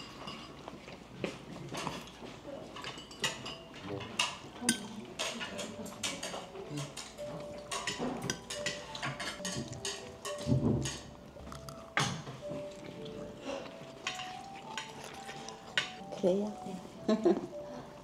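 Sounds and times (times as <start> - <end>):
utensils clinking on plates: 0.0 - 18.0.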